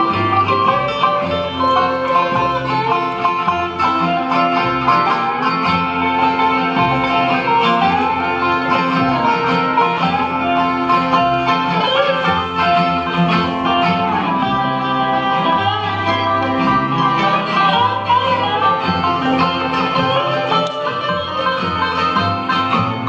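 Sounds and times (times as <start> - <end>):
acoustic bluegrass band playing: 0.0 - 23.0.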